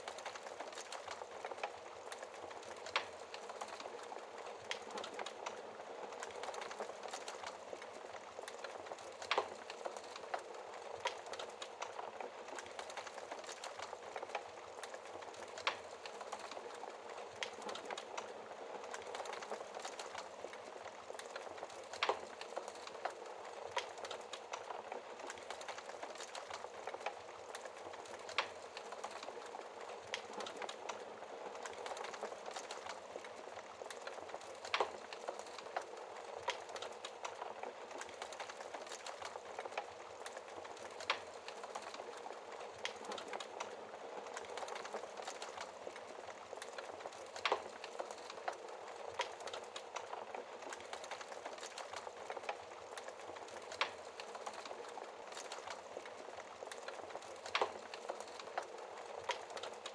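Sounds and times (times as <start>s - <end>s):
fire hissing and crackling: 0.0s - 59.9s.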